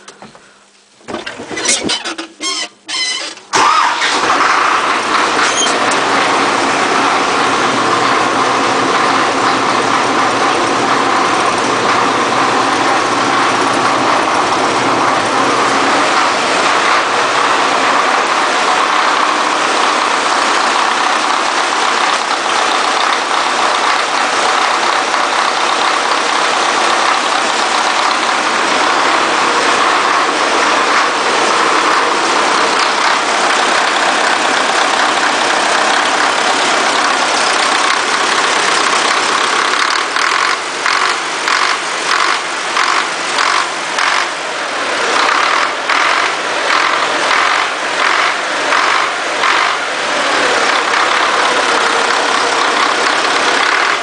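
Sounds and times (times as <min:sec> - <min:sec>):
diesel engine cranking and running: 0:00.0 - 0:54.0.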